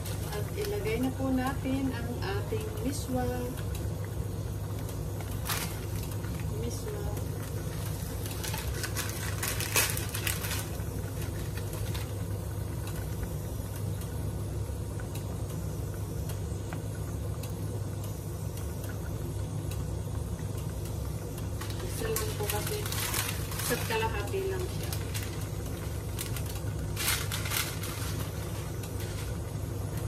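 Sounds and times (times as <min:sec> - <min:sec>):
broth simmering: 0:00.0 - 0:30.0
steady low hum: 0:00.0 - 0:30.0.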